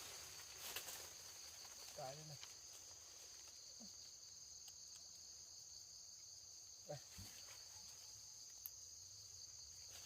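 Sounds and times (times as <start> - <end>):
faint insect chorus drone: 0.0 - 10.0.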